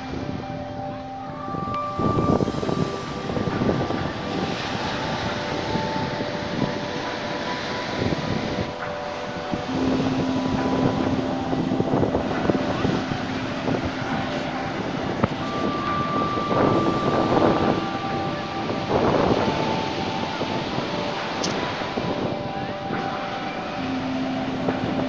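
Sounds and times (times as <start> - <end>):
faint steady tone: 0.0 - 25.0
wind buffeting microphone: 0.0 - 25.0.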